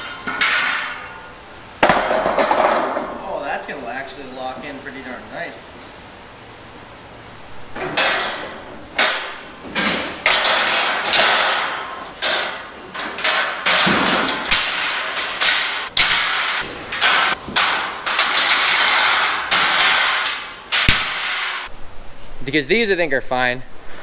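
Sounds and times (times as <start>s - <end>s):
metal beams clanking: 0.0s - 5.2s, 7.7s - 21.7s.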